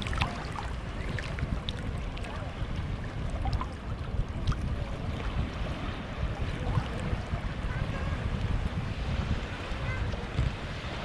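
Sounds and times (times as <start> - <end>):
choppy water flowing: 0.0 - 11.0
wind buffeting microphone: 0.0 - 11.0.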